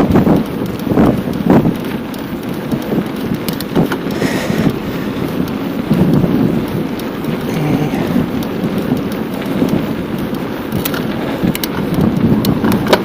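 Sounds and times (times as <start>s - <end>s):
sharp ticks: 0.0s - 13.0s
wind buffeting microphone: 0.0s - 13.0s.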